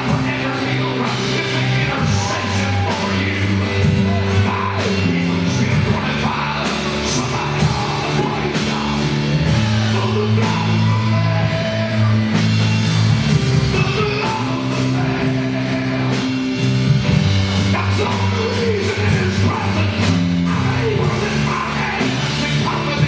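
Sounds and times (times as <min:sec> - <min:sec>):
bass guitar: 0:00.0 - 0:23.0
drum kit: 0:00.0 - 0:23.0
person singing: 0:00.0 - 0:23.0
piano: 0:00.0 - 0:23.0.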